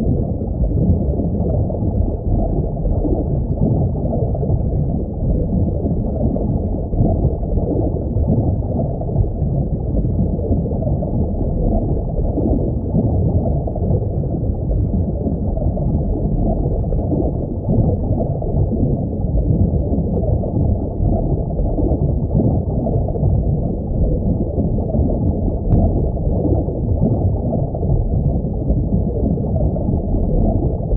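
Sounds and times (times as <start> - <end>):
aquarium water bubbling and gurgling: 0.0 - 30.9.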